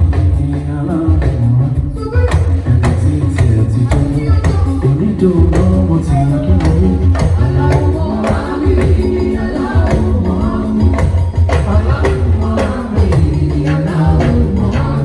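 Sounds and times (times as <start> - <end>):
loud band music: 0.0 - 15.0
person singing: 0.0 - 15.0
steady drum beat: 0.0 - 15.0.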